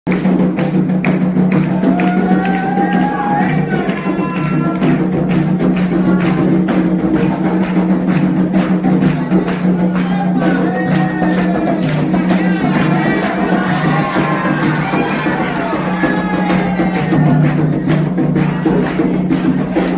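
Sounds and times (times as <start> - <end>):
fast hand percussion: 0.1 - 19.9
group of voices singing: 1.6 - 5.2, 5.8 - 19.9.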